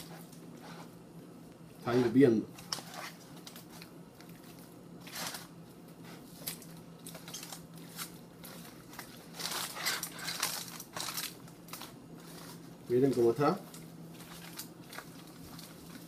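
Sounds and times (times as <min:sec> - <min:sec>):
aluminium foil crinkling: 0:01.8 - 0:16.0.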